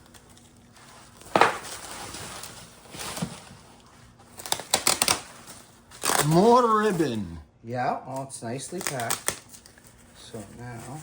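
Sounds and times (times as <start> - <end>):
packing material rustling: 0.0 - 7.2, 8.6 - 11.0.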